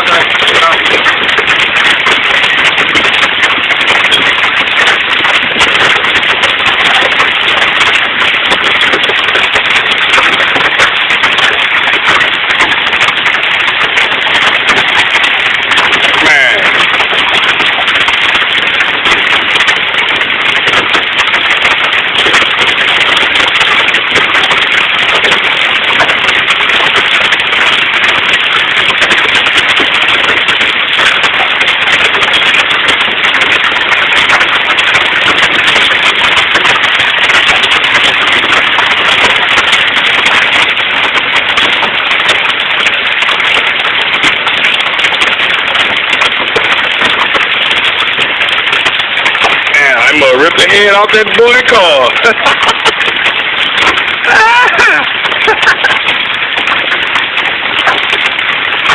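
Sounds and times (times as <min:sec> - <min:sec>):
hail clattering: 0:00.0 - 0:58.9.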